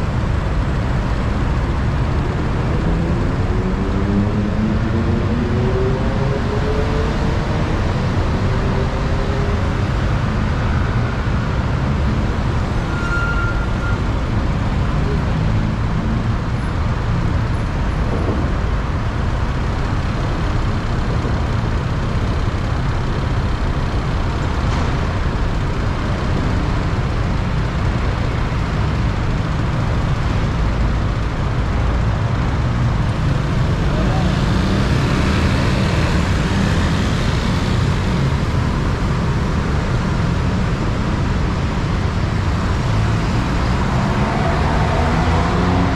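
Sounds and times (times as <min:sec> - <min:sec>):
motorcycle engine and road noise: 0:00.0 - 0:45.9.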